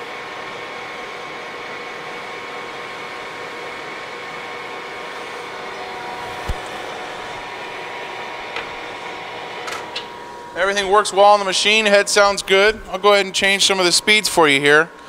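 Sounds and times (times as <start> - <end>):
lathe running with whine: 0.0 - 15.0.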